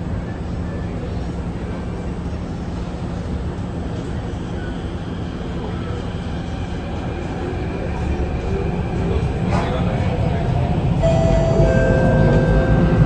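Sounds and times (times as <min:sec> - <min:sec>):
metro train rumbling: 0:00.0 - 0:13.0.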